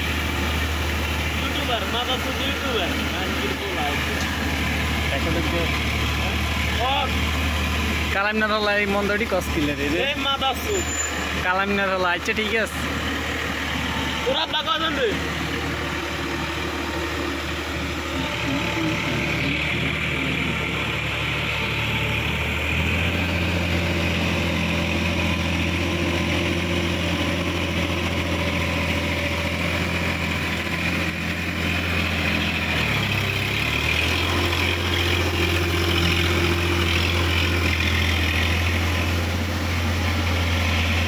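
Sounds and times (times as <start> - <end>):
rotary tiller churning mud: 0.0 - 41.0
tractor diesel engine running: 0.0 - 41.0.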